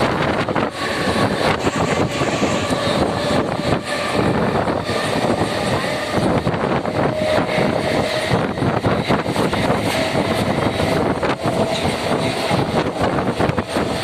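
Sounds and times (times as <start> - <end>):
train rumbling and rattling: 0.0 - 14.0.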